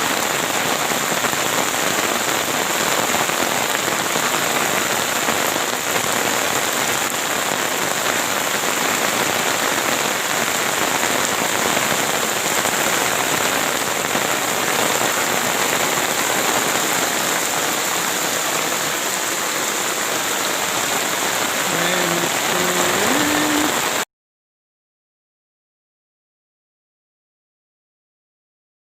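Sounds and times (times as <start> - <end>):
heavy rain: 0.0 - 24.1.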